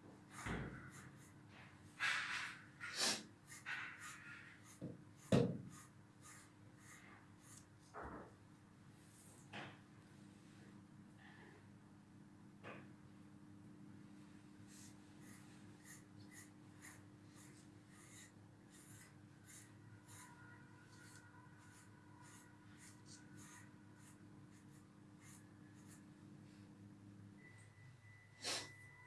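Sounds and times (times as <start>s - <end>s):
low steady hum: 4.6s - 29.0s.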